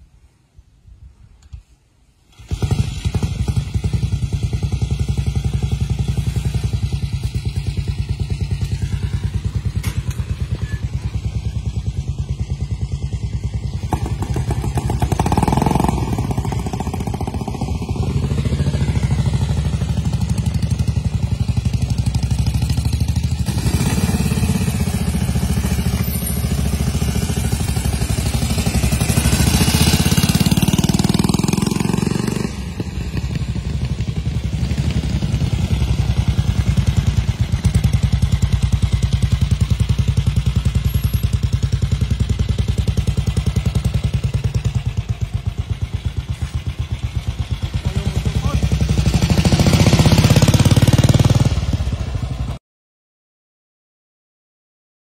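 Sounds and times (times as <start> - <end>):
motorcycle engine revving away: 2.3 - 52.6
motorcycle engines idling: 2.3 - 52.6.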